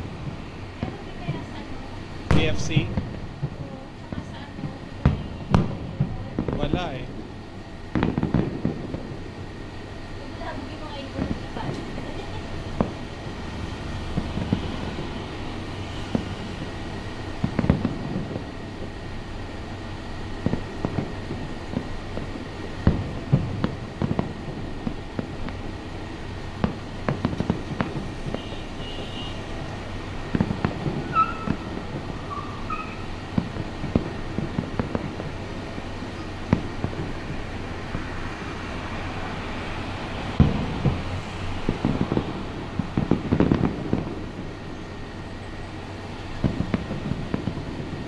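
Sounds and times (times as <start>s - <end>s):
distant fireworks bangs: 0.0s - 48.0s
low city rumble: 0.0s - 48.0s.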